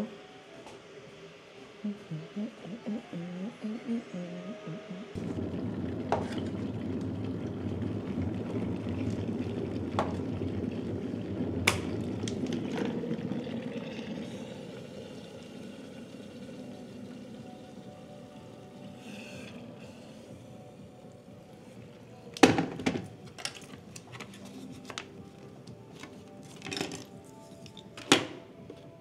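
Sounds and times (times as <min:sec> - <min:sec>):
electric kettle boiling water: 0:05.1 - 0:29.0.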